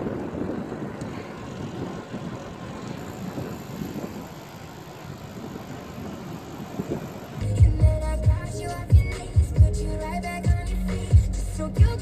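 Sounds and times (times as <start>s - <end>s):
street traffic: 0.0s - 12.0s
wind noise on microphone: 0.0s - 12.0s.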